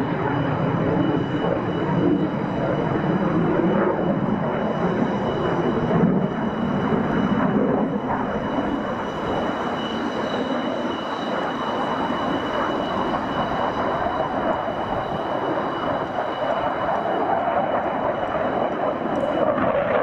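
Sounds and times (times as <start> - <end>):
faint high whining tones: 0.0 - 19.8.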